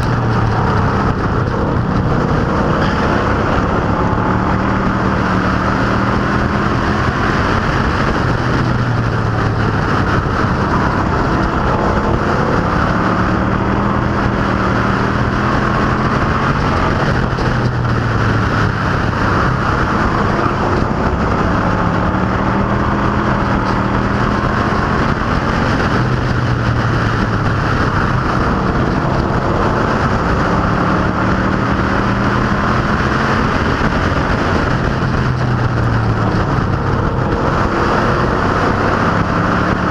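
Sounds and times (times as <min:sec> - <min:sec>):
racing car engines droning: 0:00.0 - 0:39.9.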